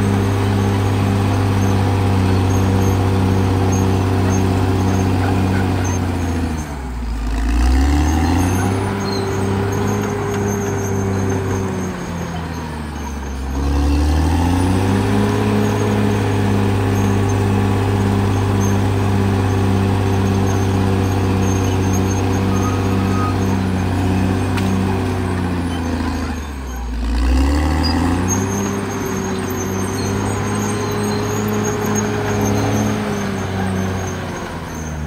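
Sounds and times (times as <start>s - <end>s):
bulldozer diesel engine revving: 0.0s - 35.0s.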